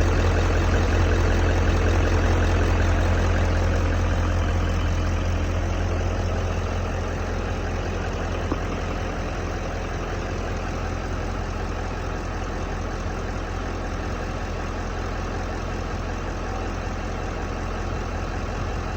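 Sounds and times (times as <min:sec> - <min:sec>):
pickup engine idling: 0:00.0 - 0:18.9.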